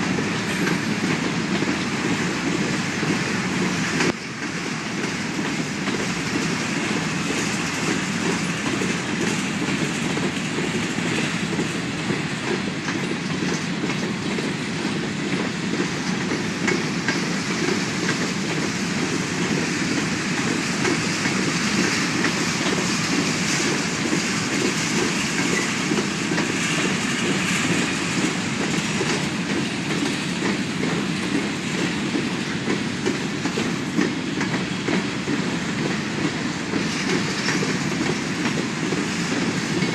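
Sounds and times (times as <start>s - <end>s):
train wheels rolling on rail: 0.0s - 39.9s.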